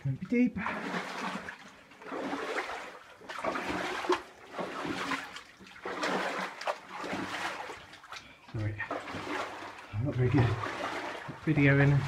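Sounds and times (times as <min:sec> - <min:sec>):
person wading through water: 0:00.0 - 0:12.0.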